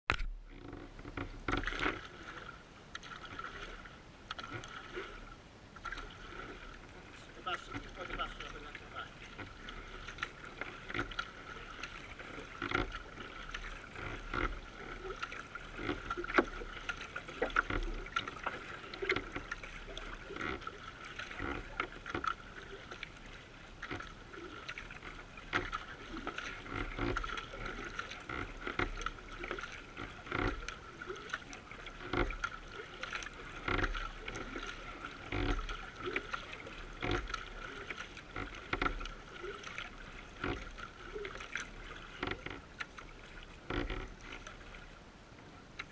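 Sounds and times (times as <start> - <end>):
paddle strokes splashing: 0.1 - 45.9
water rushing along bow: 0.1 - 45.9.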